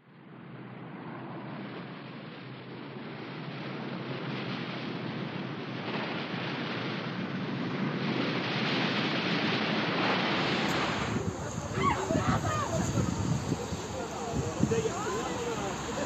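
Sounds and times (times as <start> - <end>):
rushing wind-like noise: 0.0 - 16.0.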